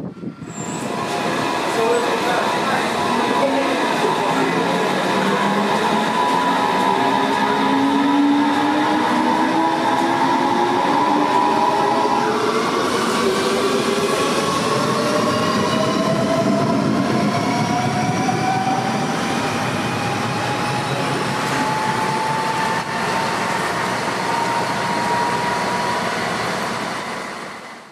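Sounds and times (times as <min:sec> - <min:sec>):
train running noise: 0:00.0 - 0:27.9.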